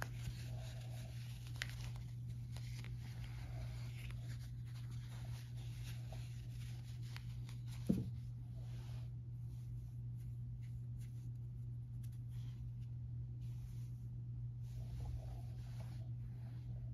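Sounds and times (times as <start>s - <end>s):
bandage rustling: 0.0s - 14.2s
steady low hum: 0.0s - 16.9s.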